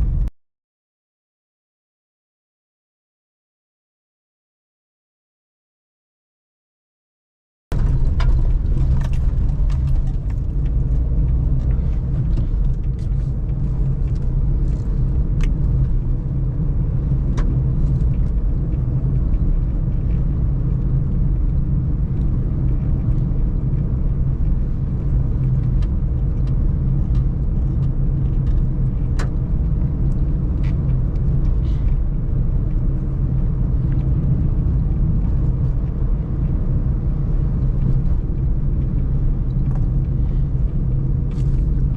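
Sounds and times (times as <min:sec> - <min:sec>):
car engine and road rumble: 0:00.0 - 0:00.3, 0:07.7 - 0:41.9.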